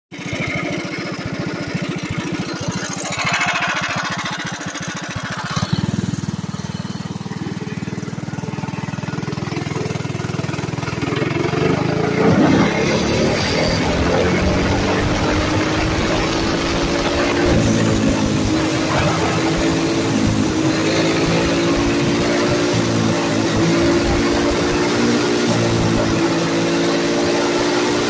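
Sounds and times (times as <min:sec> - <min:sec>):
single-cylinder engine idling: 0:00.1 - 0:26.6.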